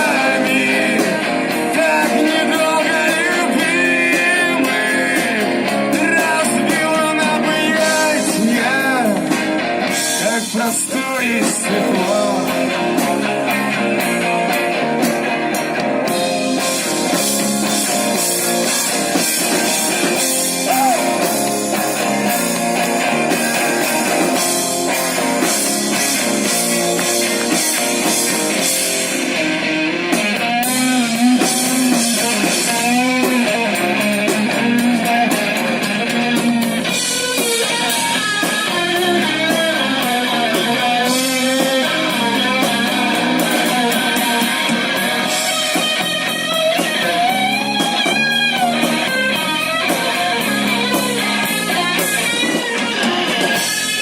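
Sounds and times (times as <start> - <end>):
drums: 0.0 - 54.0
guitar melody: 0.0 - 54.0.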